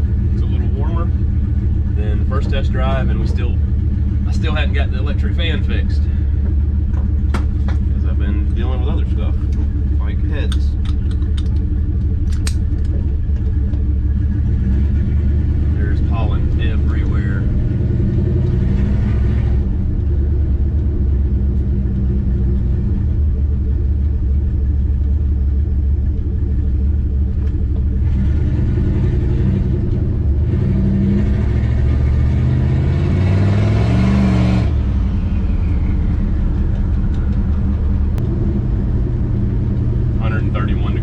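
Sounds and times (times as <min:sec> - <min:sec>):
turbocharged car engine: 0:00.0 - 0:41.0.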